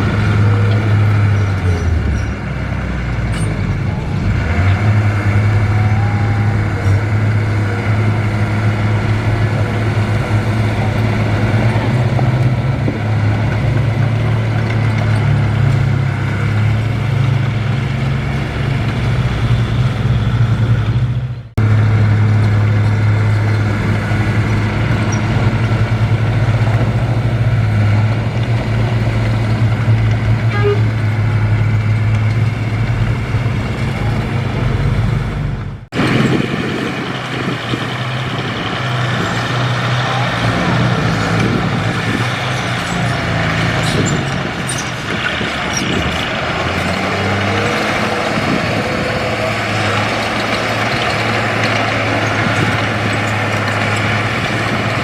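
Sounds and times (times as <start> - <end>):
heavy diesel machinery engine drone: 0.0 - 55.0.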